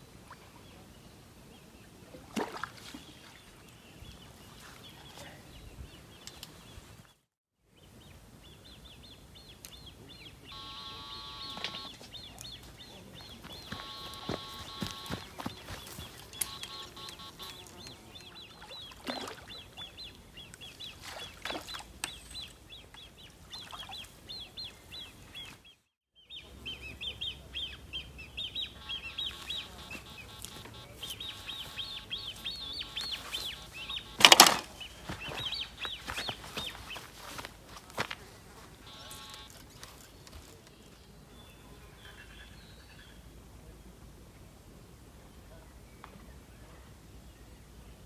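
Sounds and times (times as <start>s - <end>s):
small birds chirping: 2.8s - 43.3s.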